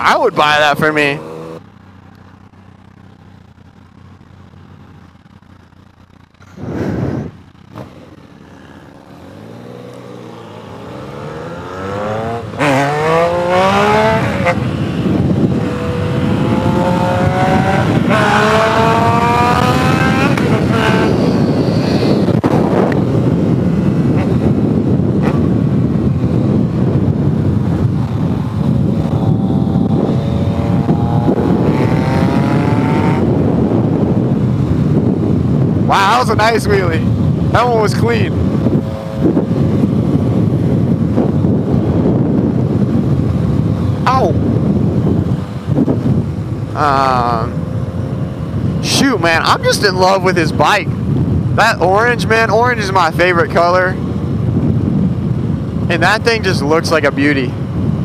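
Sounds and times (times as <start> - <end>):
motorcycle engine accelerating: 0.0 - 58.0
wind rush on microphone: 6.3 - 58.0.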